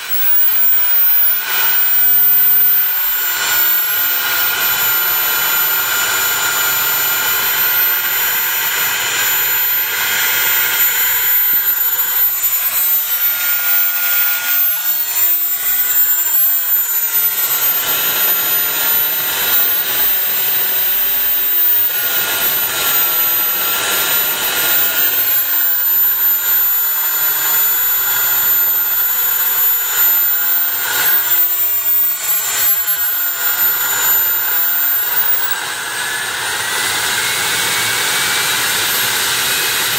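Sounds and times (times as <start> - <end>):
model turbojet engine running: 0.0 - 39.9.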